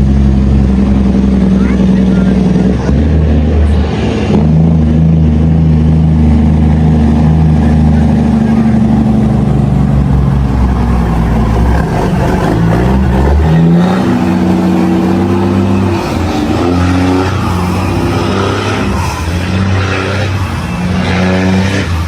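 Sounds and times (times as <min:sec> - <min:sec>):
heavy truck engine under load: 0:00.0 - 0:22.0.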